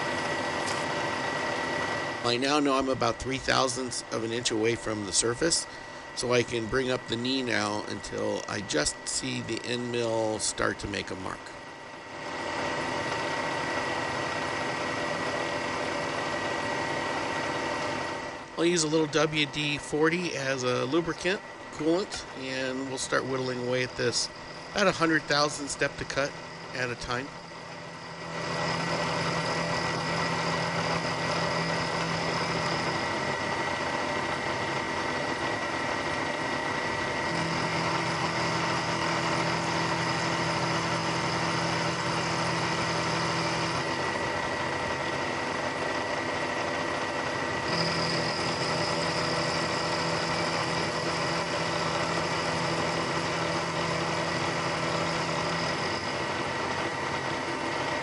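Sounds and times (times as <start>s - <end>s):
end mill cutting metal: 0.0s - 58.0s
milling machine hum: 0.0s - 58.0s.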